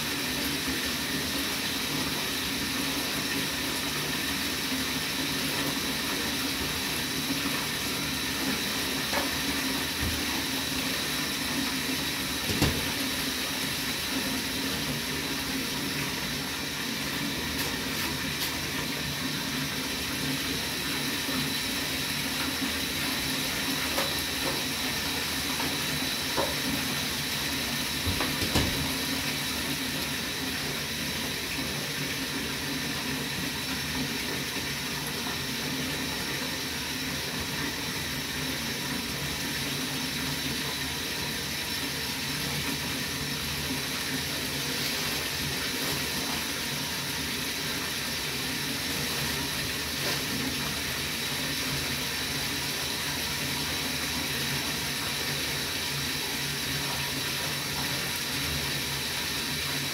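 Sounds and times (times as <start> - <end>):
water running from bath tap: 0.0 - 59.9.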